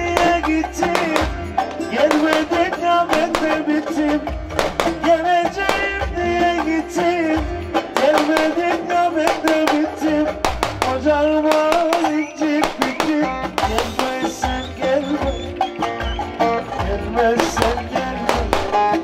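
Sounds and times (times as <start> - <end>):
folk dance band music: 0.0 - 19.0
steady drum beat: 0.0 - 19.0.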